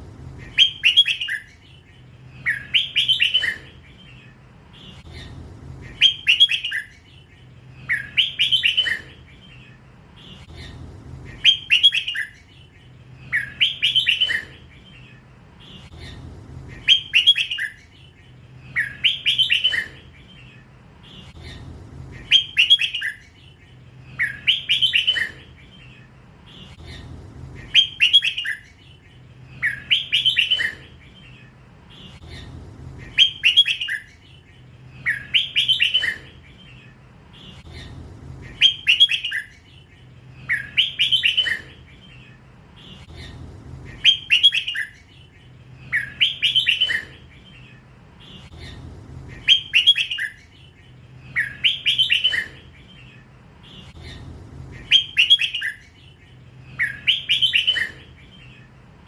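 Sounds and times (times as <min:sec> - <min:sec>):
bird singing warbled phrase: 0:00.2 - 0:58.8.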